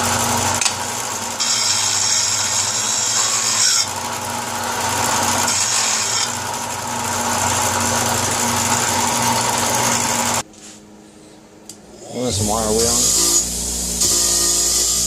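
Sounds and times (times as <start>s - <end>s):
motor hum: 0.0s - 10.4s, 11.9s - 15.0s.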